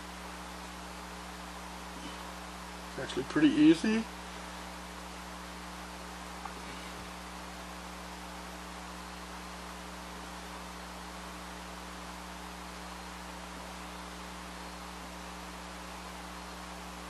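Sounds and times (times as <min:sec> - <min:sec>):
constant hiss: 0:00.0 - 0:17.0
low electrical hum: 0:00.0 - 0:17.0.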